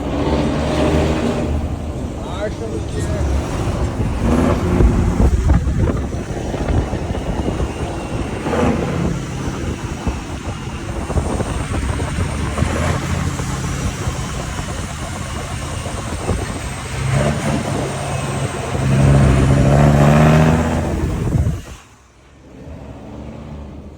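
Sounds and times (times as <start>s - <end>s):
truck diesel engine revving: 0.0s - 23.9s.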